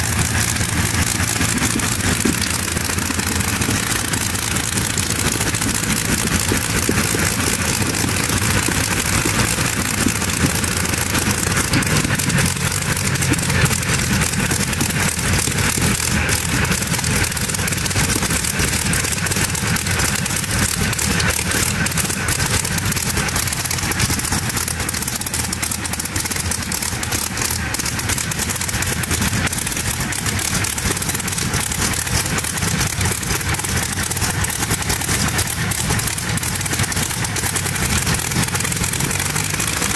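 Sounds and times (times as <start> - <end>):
aircraft engine idling: 0.0 - 39.9.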